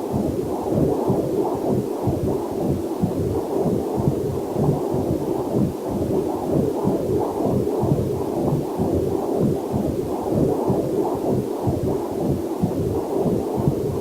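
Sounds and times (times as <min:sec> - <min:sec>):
fetal heartbeat whooshing: 0:00.0 - 0:14.0.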